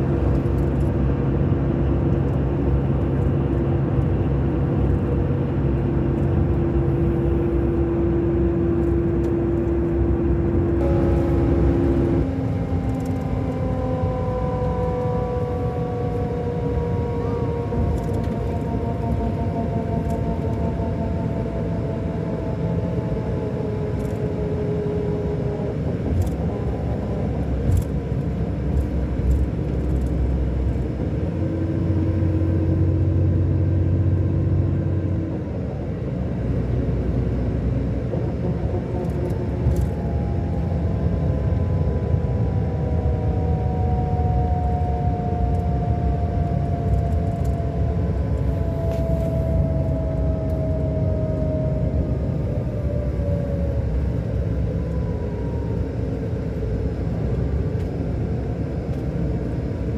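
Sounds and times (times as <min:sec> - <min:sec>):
diesel engine low rumble: 0:00.0 - 0:59.9.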